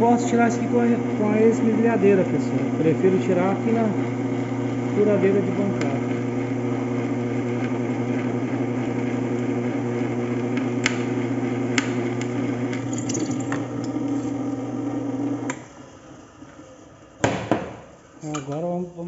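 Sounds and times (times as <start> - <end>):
drill press motor running: 0.0 - 15.8.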